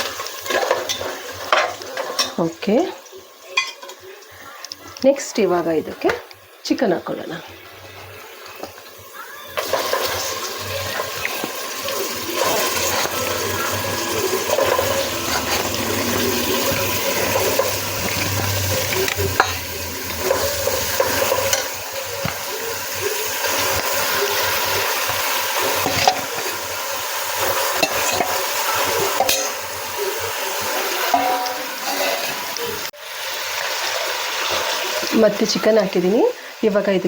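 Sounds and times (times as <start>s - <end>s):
chicken sizzling in hot oil: 0.0s - 37.0s.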